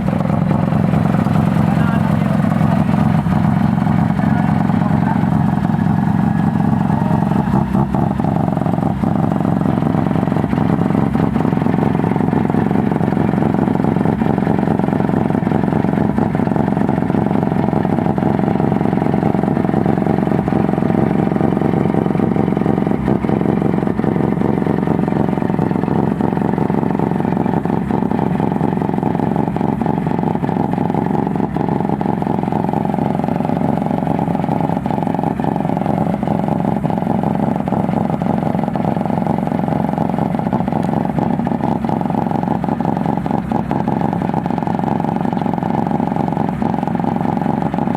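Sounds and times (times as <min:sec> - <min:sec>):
rotary engine running: 0:00.0 - 0:47.9.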